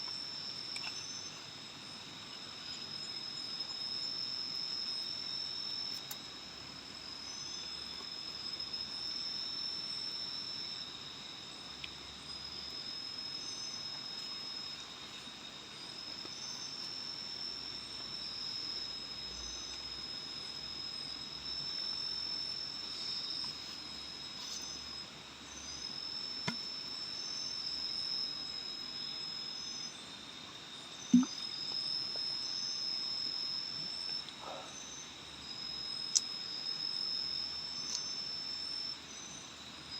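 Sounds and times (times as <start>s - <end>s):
high insect chirp: 0.0s - 39.9s
insects trilling: 0.0s - 39.9s.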